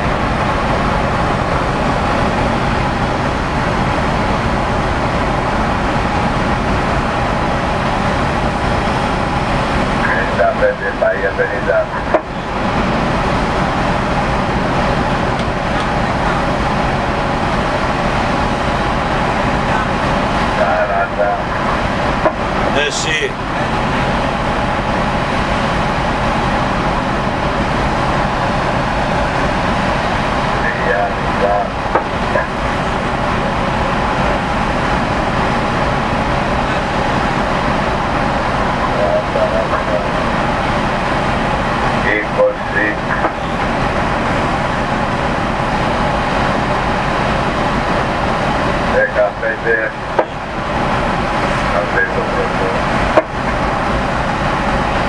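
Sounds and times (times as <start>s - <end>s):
ship engine rumble and exhaust: 0.0s - 55.0s.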